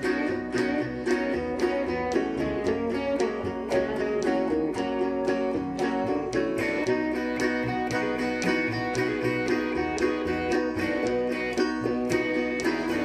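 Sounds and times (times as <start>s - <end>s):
electric guitar: 0.0s - 13.0s
resonator guitar: 0.0s - 13.0s
upright bass: 0.0s - 13.0s.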